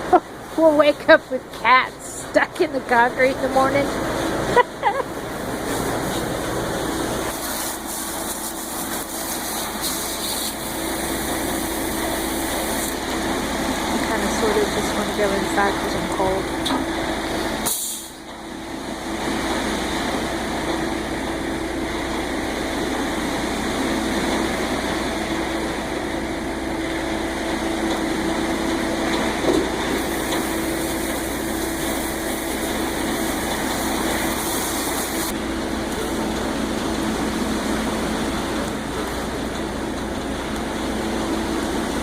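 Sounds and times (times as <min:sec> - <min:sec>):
truck engine running: 0:00.0 - 0:42.0.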